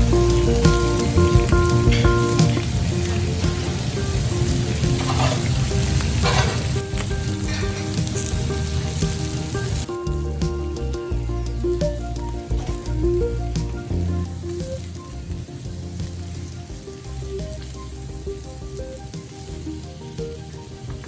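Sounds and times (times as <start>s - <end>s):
food sizzling in oil: 0.0s - 20.9s
background music: 0.0s - 21.0s.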